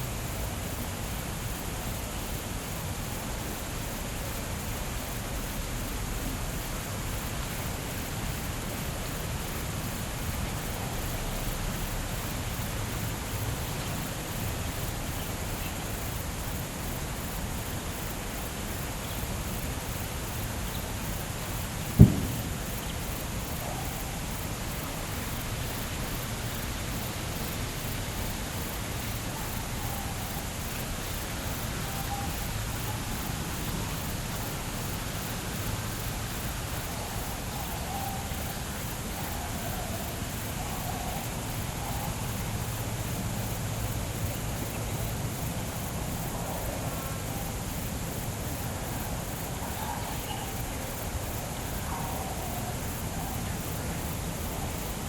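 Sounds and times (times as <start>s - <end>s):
outdoor hiss: 0.0s - 55.0s.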